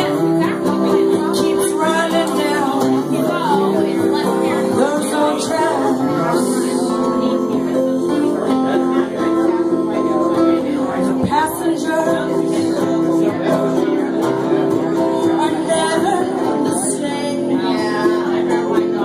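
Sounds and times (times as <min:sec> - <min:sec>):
guitars strumming chords: 0:00.0 - 0:19.0.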